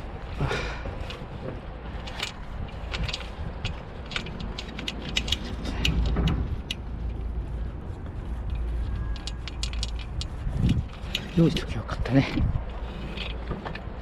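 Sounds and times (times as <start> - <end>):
steady low rumble: 0.0 - 14.0
metallic clicks and rattles: 0.9 - 7.2, 8.5 - 14.0.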